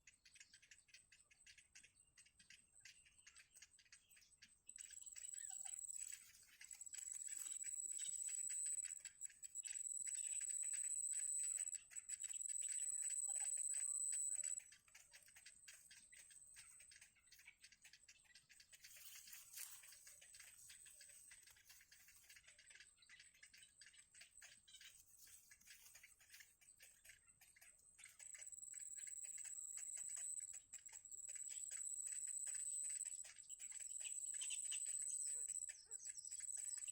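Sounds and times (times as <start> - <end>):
faint ticking and rustling: 0.0 - 36.9.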